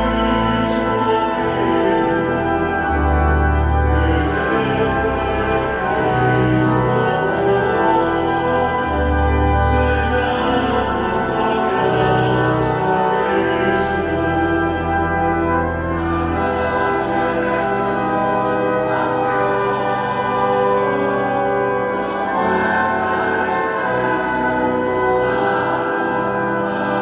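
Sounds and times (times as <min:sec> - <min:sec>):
choir singing a hymn: 0:00.0 - 0:27.0
pipe organ chords: 0:00.0 - 0:27.0.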